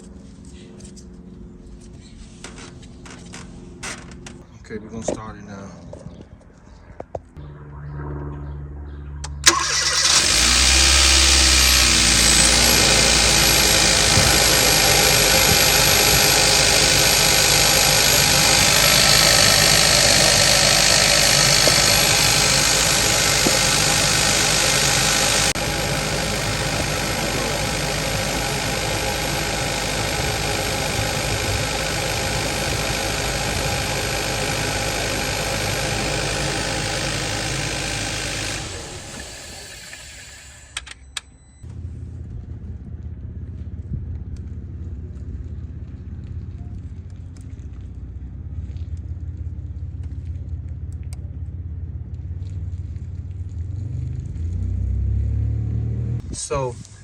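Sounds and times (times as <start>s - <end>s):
car engine running: 7.4s - 56.6s.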